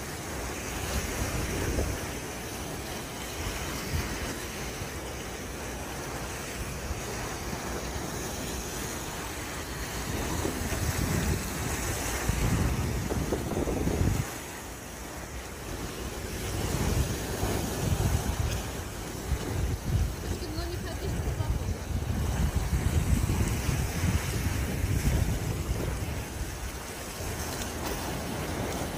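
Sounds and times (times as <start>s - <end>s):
waves splashing against rocks: 0.0s - 28.9s
wind rumbling on microphone: 0.0s - 28.9s.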